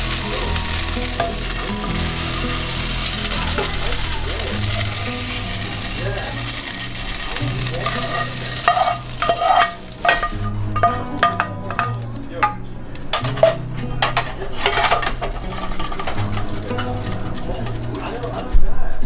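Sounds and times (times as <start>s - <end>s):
utensil scraping a pan: 0.0s - 18.5s
meat sizzling in a pan: 0.0s - 18.6s.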